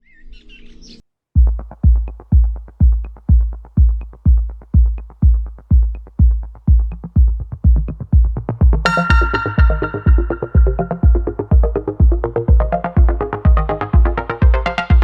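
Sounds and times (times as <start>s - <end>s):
deep kick drum beat: 1.4s - 15.0s
synthesizer chords: 1.4s - 15.0s.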